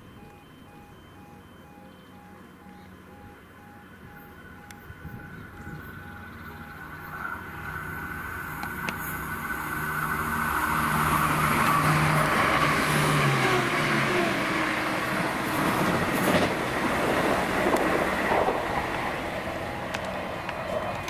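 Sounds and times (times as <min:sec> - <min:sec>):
train wheels rushing on rail: 0:04.1 - 0:21.0.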